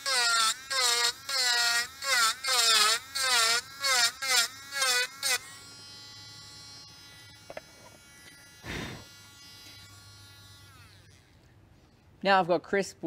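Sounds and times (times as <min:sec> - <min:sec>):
rotary tool motor whine: 0:00.0 - 0:11.4.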